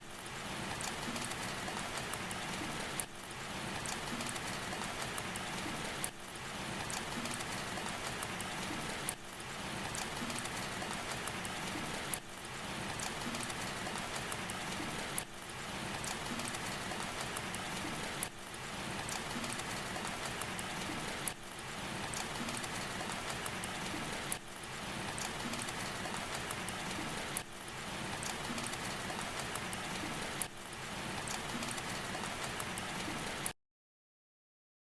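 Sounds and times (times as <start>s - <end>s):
fire crackling and hissing: 0.0s - 33.5s.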